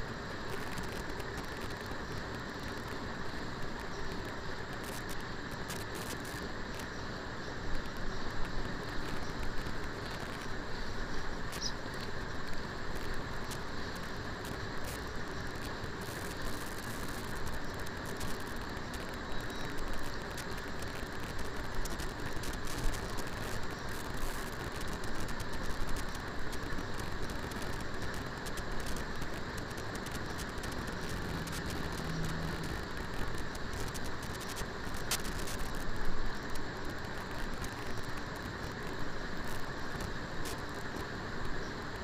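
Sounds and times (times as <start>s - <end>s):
liver sizzling in hot oil: 0.0s - 42.0s.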